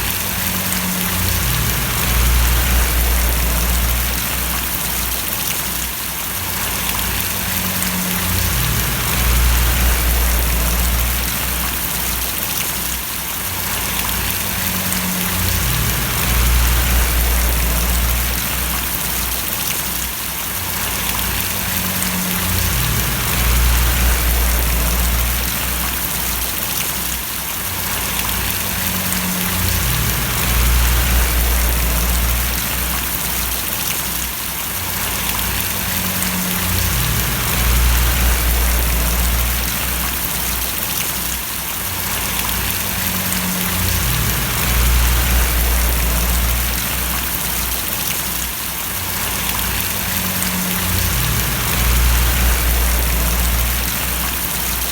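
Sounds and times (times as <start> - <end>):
low rumble: 0.0 - 5.4, 6.6 - 12.4, 13.8 - 19.6, 20.8 - 26.6, 28.0 - 33.8, 35.0 - 40.8, 42.3 - 48.1, 49.2 - 54.9
rain falling and splashing: 0.0 - 54.9.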